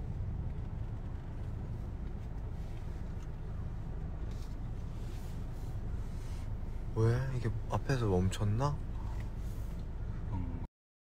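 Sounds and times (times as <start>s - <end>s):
car rumble from inside cabin: 0.0s - 10.7s.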